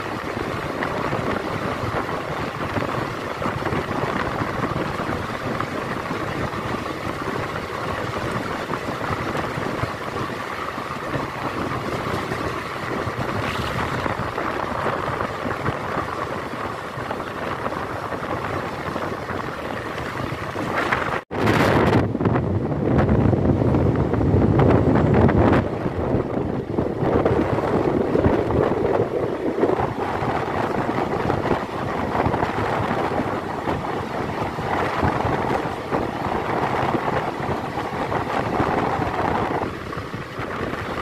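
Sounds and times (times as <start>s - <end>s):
rushing air: 0.0s - 41.0s
train wheels rolling on rails: 0.0s - 41.0s.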